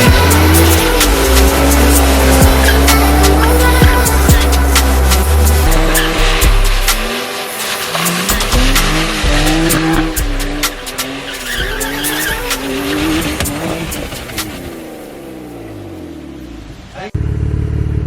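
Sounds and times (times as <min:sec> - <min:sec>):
tyres squealing: 0:00.0 - 0:15.3
car engine revving: 0:00.0 - 0:18.0.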